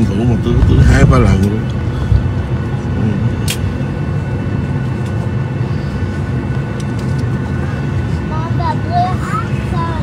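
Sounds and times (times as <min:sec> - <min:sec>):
jet engines low rumble: 0:00.0 - 0:10.0.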